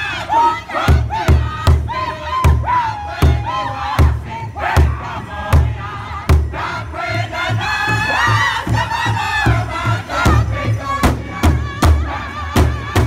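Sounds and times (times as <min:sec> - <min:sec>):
group singing in unison: 0:00.0 - 0:13.0
large drum beating: 0:00.9 - 0:13.0.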